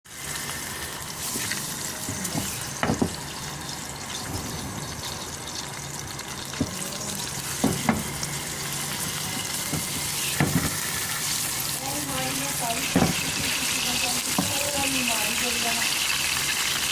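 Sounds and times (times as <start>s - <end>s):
fish frying in hot oil: 0.1s - 16.9s.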